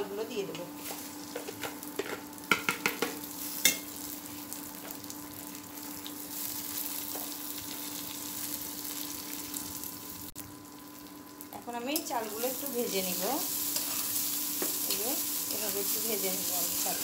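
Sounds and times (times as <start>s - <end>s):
rice sizzling in hot oil: 0.8s - 17.0s.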